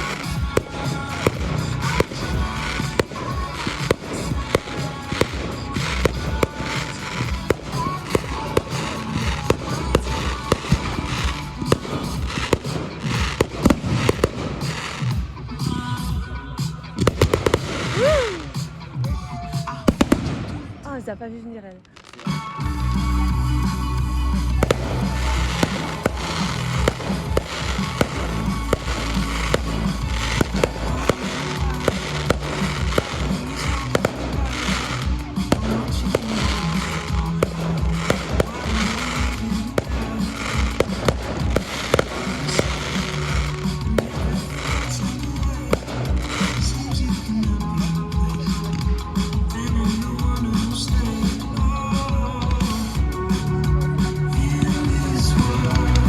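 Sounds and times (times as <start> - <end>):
fireworks bangs: 0.0 - 16.2, 17.0 - 22.6, 24.3 - 53.4
fireworks crackling: 0.0 - 56.0
music playing: 0.0 - 56.0.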